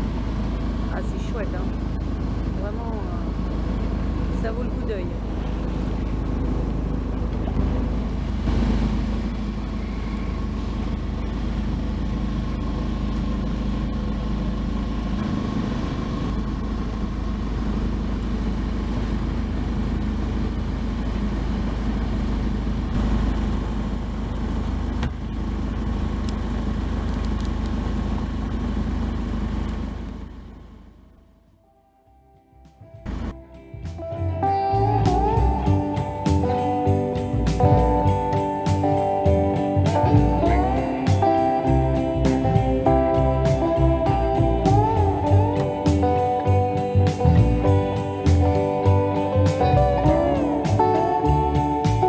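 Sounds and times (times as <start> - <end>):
boat engine running: 0.0 - 31.7, 32.9 - 52.0.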